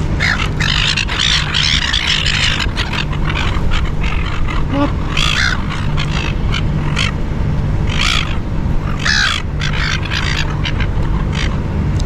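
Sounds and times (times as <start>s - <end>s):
gulls squawking: 0.0s - 11.8s
steady low hum: 0.0s - 12.0s.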